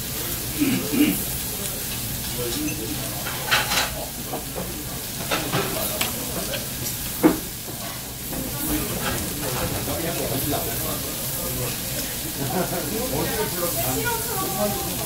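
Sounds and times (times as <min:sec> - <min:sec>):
meat and vegetables sizzling: 0:00.0 - 0:15.0.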